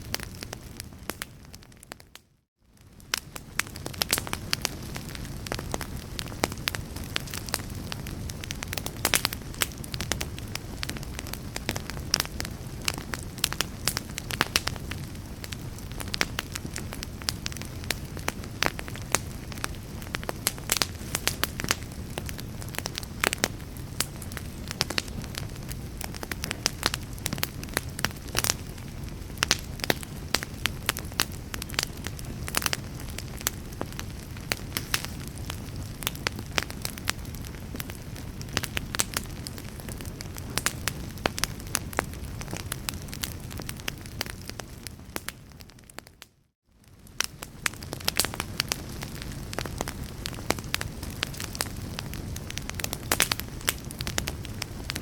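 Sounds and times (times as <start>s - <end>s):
wood fire crackling and popping: 0.0s - 55.0s
flames rushing: 3.0s - 45.3s, 47.0s - 55.0s.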